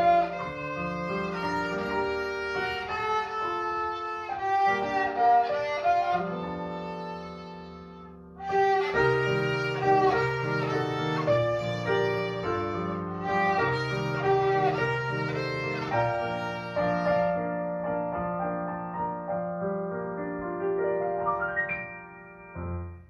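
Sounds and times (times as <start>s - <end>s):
violin melody: 0.0s - 18.7s
piano accompaniment: 0.0s - 23.0s.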